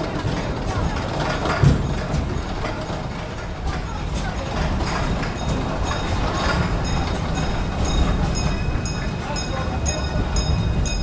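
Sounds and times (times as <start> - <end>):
train car rolling on track: 0.0 - 11.0
railroad crossing bell dinging: 0.7 - 11.0.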